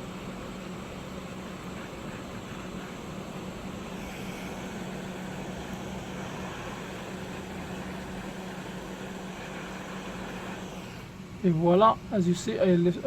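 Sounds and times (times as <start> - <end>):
heat gun blowing air: 0.0 - 11.2.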